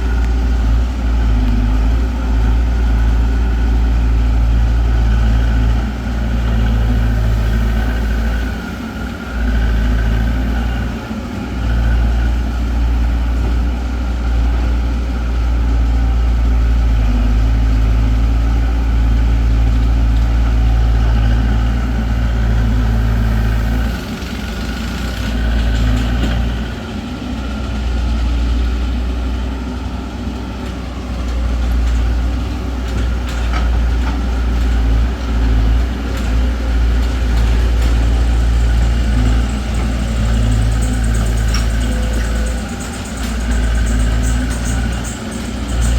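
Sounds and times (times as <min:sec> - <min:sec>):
heavy vehicle engine running: 0:00.0 - 0:45.9.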